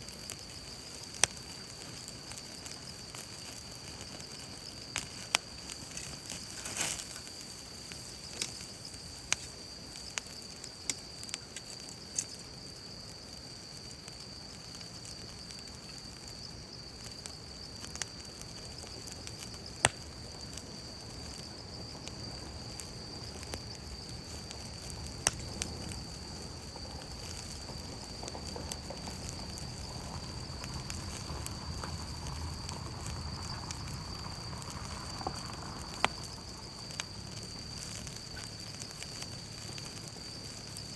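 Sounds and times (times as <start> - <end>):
campfire crackling: 0.0 - 40.9
sharp fire pops: 0.0 - 40.9.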